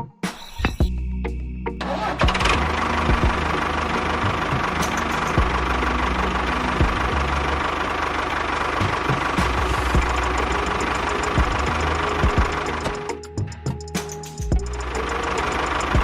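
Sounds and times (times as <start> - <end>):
small engine running: 1.8 - 13.2, 14.4 - 16.0.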